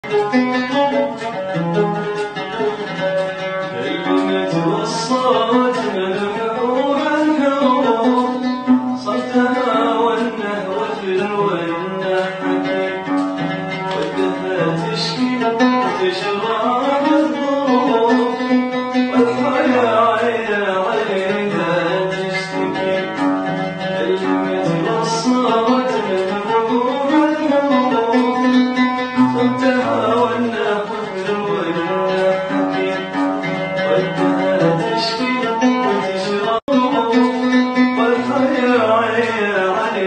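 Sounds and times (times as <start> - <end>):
oud plucked: 0.0 - 40.0
man singing: 3.6 - 40.0.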